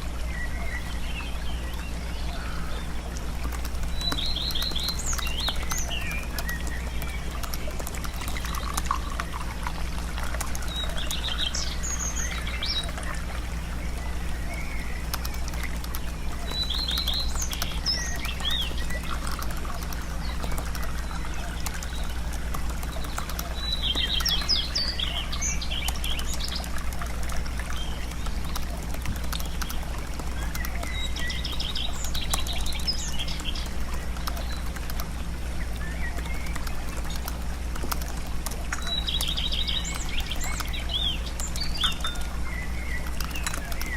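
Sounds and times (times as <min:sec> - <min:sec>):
light patter: 0:00.0 - 0:43.9
small birds chirping: 0:00.0 - 0:43.9
steady low hum: 0:00.0 - 0:43.9.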